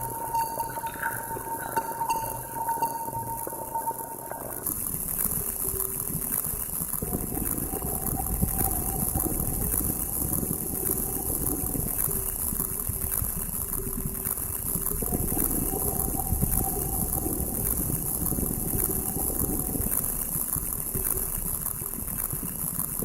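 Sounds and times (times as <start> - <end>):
faint held synth tones: 0.0 - 22.0
crackling rumble: 0.0 - 23.0.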